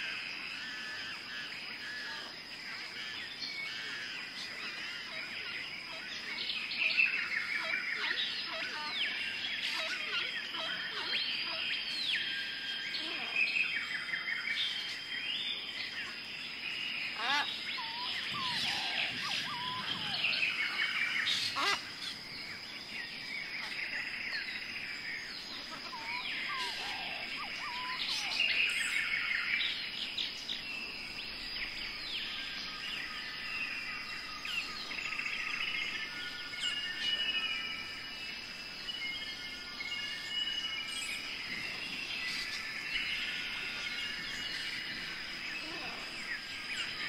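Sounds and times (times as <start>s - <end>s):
birds chirping and calling: 0.6s - 47.0s.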